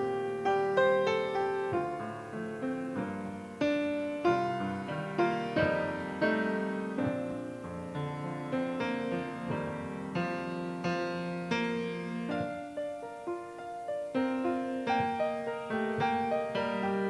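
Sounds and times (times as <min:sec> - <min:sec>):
slow gentle piano piece: 0:00.0 - 0:17.0.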